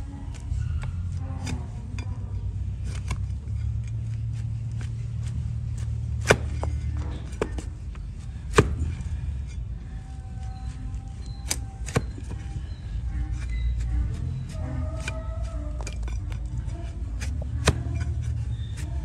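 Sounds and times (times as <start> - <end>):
steady low hum: 0.0 - 19.0
blade cracking and scraping hoof: 0.3 - 9.6, 10.5 - 19.0.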